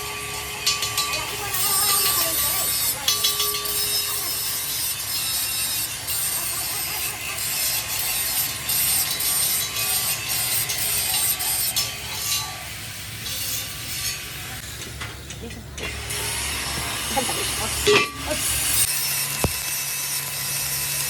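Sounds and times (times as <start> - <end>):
hand tool scraping metal: 0.0 - 19.6.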